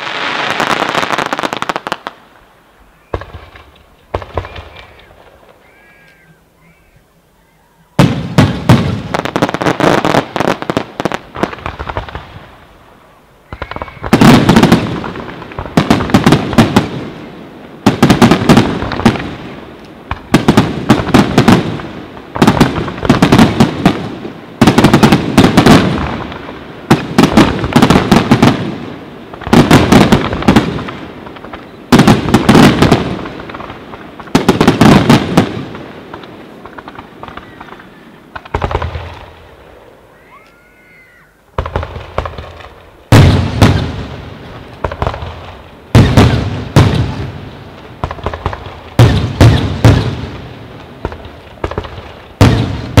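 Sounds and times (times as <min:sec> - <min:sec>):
fireworks bangs and crackles: 0:00.0 - 0:05.6, 0:07.9 - 0:40.0, 0:41.5 - 0:53.0.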